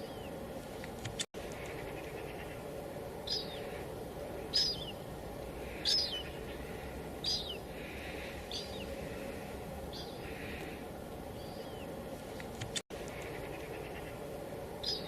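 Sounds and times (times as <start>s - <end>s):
bird calling: 0.0s - 15.0s
light drizzle: 0.0s - 15.0s.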